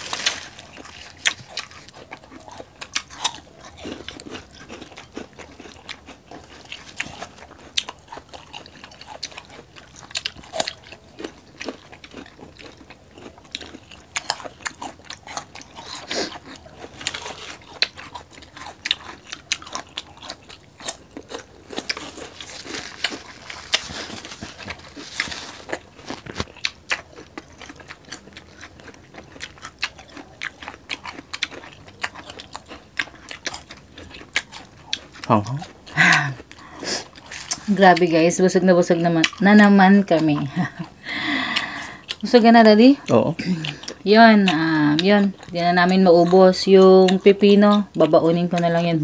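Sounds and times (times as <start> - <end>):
people chewing crunchy food: 0.0 - 49.0.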